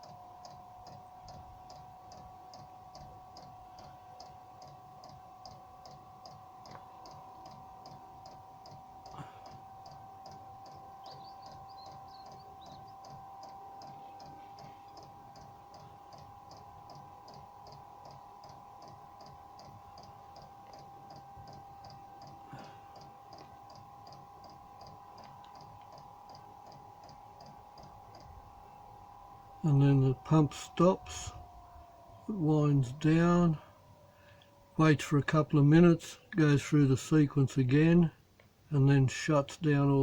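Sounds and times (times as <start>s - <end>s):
fuel pump ticking: 0.0s - 34.8s
heater blower whine: 0.0s - 40.0s.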